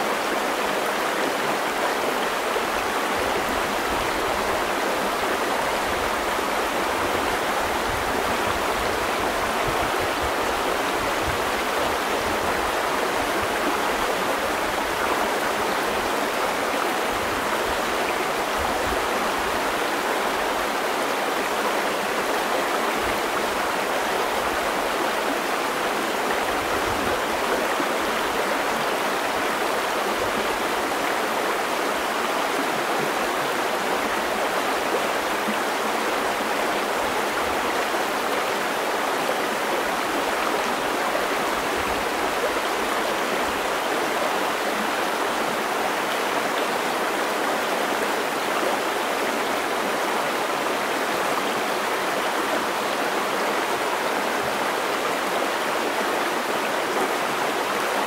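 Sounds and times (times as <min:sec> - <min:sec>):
creek babbling over stones: 0:00.0 - 0:58.0.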